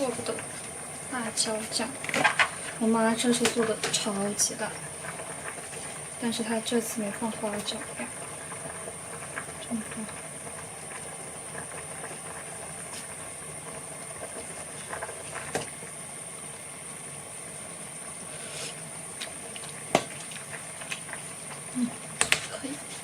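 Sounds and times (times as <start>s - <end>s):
food simmering in a pan: 0.0s - 23.0s.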